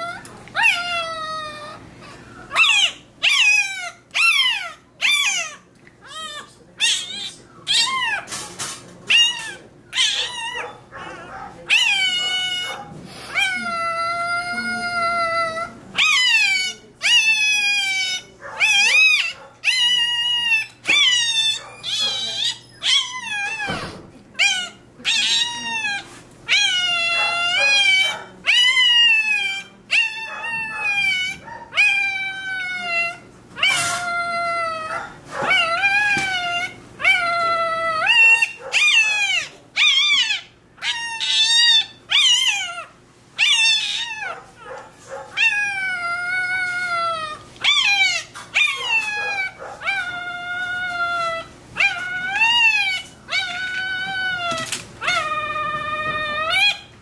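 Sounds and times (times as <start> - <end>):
puppy squealing: 0.0 - 1.9, 2.5 - 8.4, 9.1 - 57.0.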